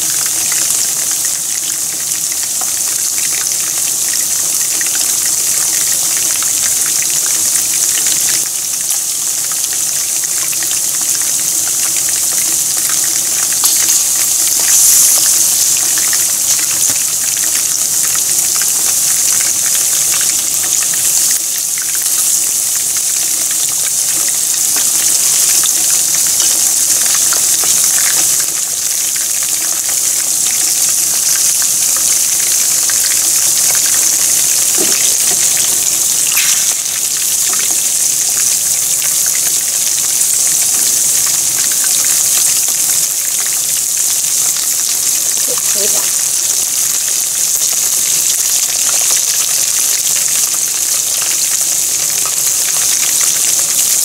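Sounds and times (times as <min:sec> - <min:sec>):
hot oil sizzling: 0:00.0 - 0:54.0.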